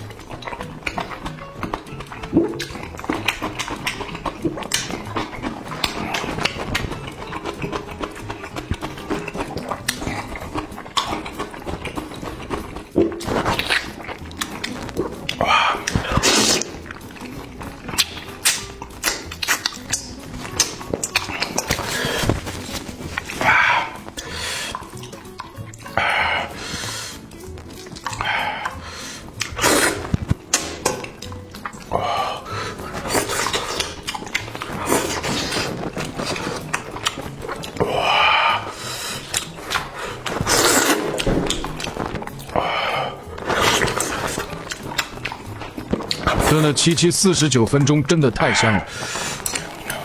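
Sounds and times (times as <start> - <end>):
person chewing and slurping: 0.0 - 47.1, 48.4 - 50.0
wet mouth clicks: 0.0 - 47.1, 48.6 - 50.0.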